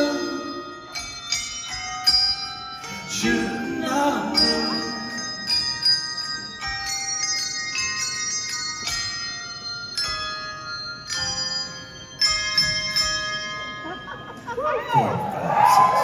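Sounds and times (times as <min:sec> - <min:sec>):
tuned bells playing melody: 0:00.0 - 0:16.0.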